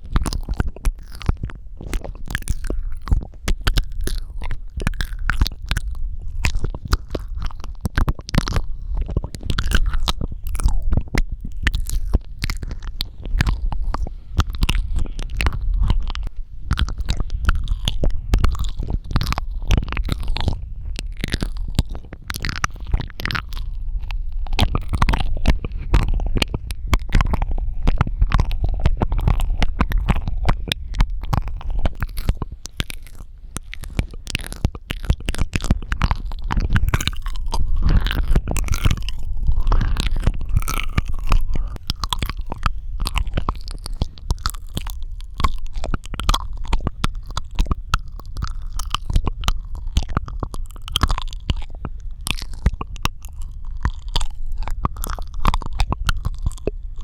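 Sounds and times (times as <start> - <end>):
low microphone rumble: 0.0 - 57.0
wet mouth clicks and smacks: 0.0 - 57.0.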